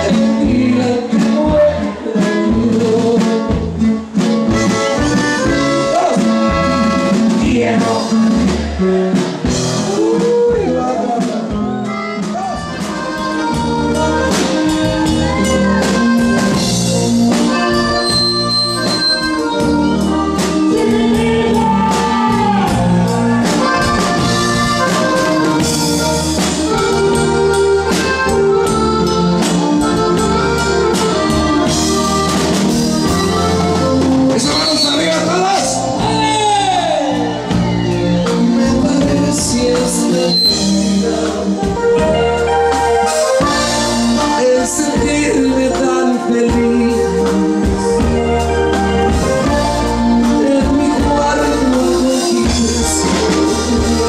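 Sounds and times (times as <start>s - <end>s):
bass: 0.0s - 54.0s
drums: 0.0s - 54.0s
keyboard melody: 0.0s - 54.0s.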